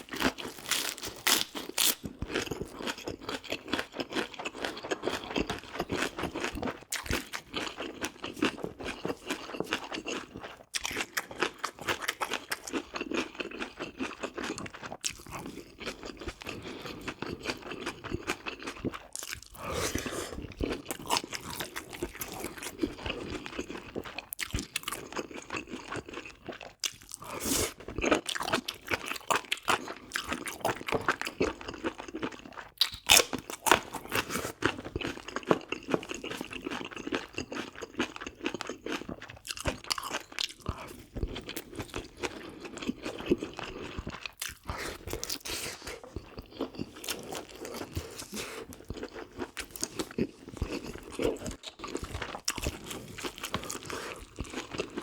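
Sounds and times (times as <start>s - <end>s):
wet crunching chewing: 0.0s - 55.0s.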